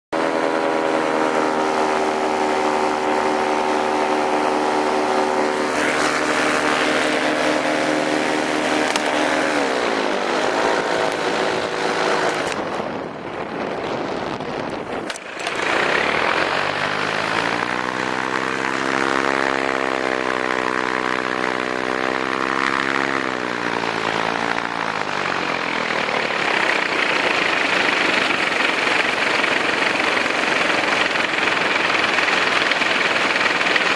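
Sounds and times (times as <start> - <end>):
paramotor engine and propeller: 0.1 - 33.9
wind rushing over microphone: 0.2 - 33.9.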